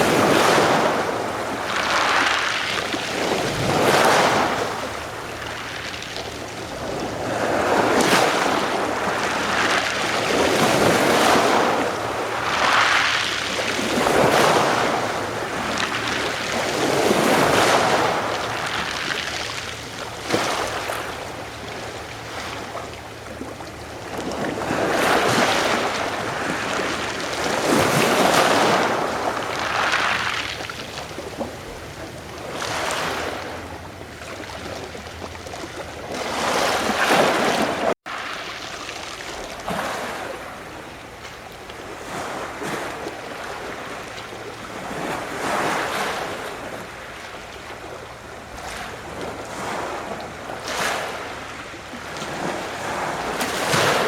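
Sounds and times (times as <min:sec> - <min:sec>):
waves washing onto shore: 0:00.0 - 0:54.0.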